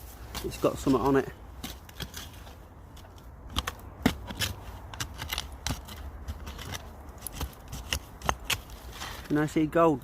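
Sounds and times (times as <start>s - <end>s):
tool scraping and clicking in dirt: 0.0s - 9.6s.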